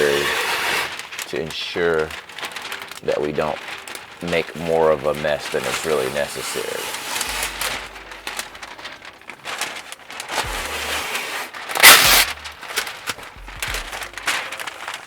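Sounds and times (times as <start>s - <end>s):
paper crinkling and rustling: 0.0s - 15.0s
paper ripping: 0.0s - 15.0s.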